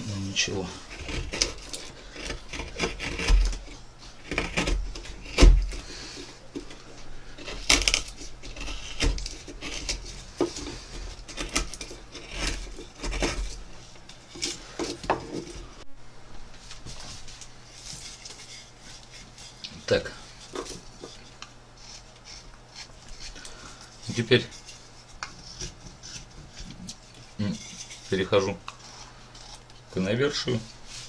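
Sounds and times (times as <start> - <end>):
hand gouge scraping wood: 0.0 - 15.7, 17.9 - 29.8.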